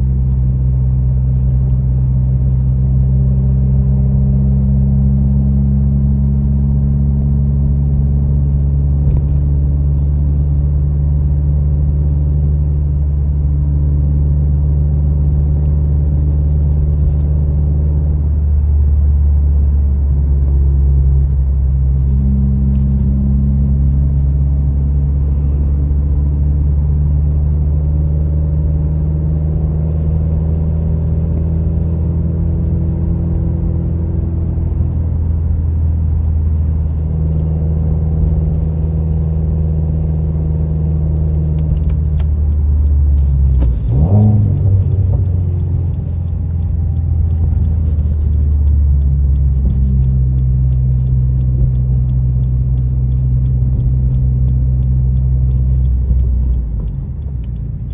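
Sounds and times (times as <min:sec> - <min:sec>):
car engine droning from inside cabin: 0:00.0 - 0:57.9.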